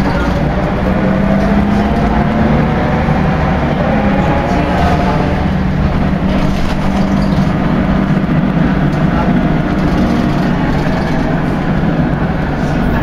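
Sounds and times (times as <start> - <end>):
bus drivetrain drone: 0.0 - 13.0.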